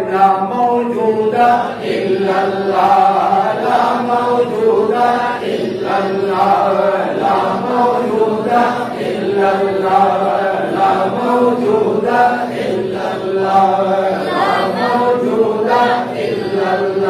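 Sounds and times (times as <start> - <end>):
man chanting devotional verses: 0.0 - 17.0.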